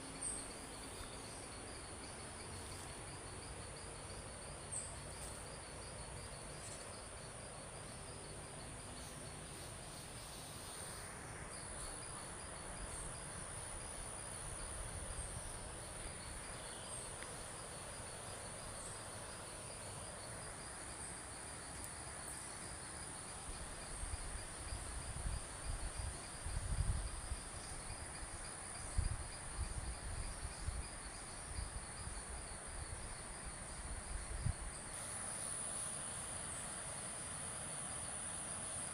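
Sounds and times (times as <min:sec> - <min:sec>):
crickets chirping: 0:00.0 - 0:38.9
insects buzzing: 0:00.0 - 0:38.9.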